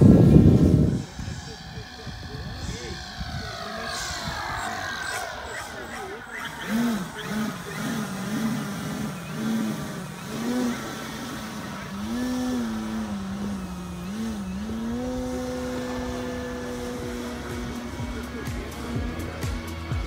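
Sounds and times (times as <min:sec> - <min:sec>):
model plane engine: 0:00.0 - 0:20.0.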